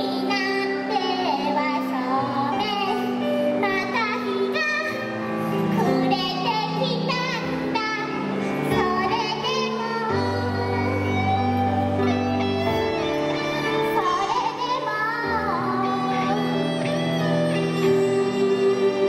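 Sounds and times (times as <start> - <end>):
live band playing pop: 0.0 - 19.0.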